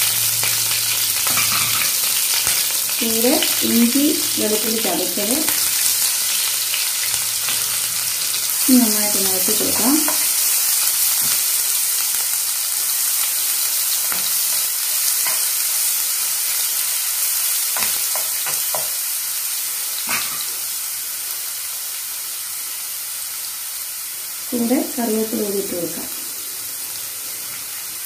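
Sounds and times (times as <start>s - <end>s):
spices sizzling in oil: 0.0s - 28.0s.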